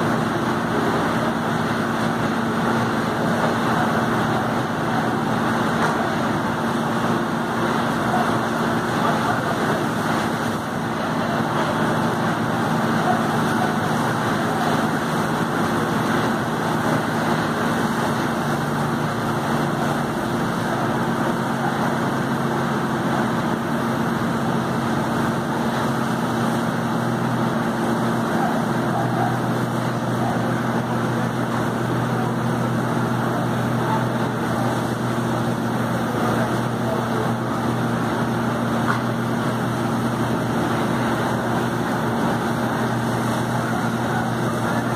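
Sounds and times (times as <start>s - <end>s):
fire engine pump running: 0.0s - 44.9s
hose water jet spraying: 2.8s - 44.9s.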